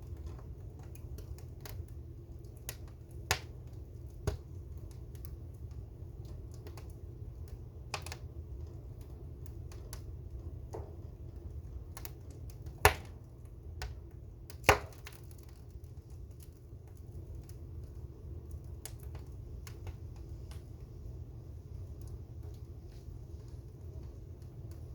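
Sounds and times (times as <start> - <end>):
low steady rumble: 0.0 - 24.9
wood fire crackling and popping: 0.0 - 24.9.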